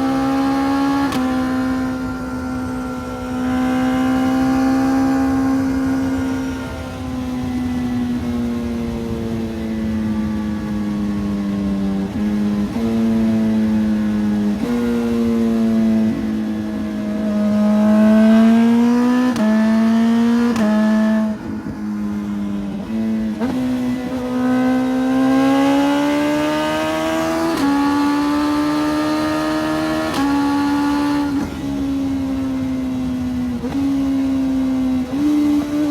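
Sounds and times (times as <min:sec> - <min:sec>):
motorcycle engine shifting gears: 0:00.0 - 0:35.9.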